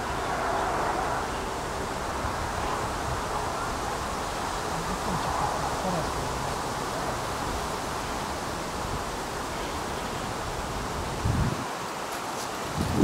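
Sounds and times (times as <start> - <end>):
wind rustling hiss: 0.0 - 13.0.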